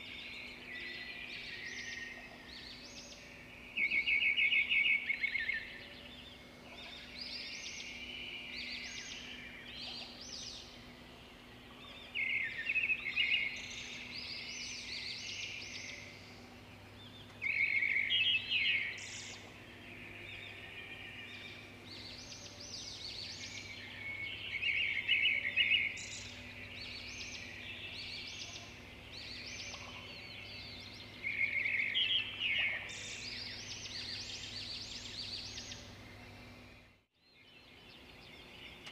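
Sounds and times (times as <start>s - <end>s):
birds chirping and twittering: 0.0s - 38.9s
faint low hum: 0.0s - 38.9s.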